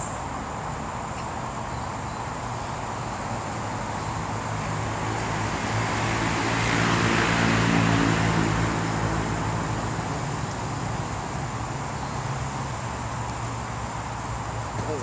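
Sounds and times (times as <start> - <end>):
vehicle passing close by: 2.2 - 14.7.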